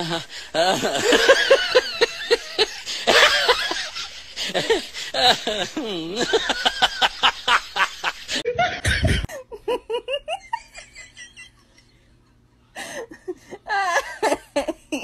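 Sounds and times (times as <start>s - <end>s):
person laughing: 0.0s - 11.9s, 12.8s - 15.0s.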